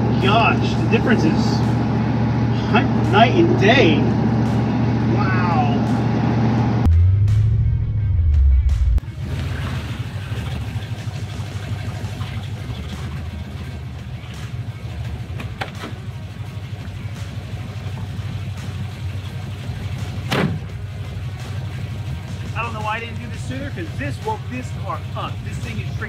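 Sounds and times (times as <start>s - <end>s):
car engine idling rumble: 0.0s - 26.0s.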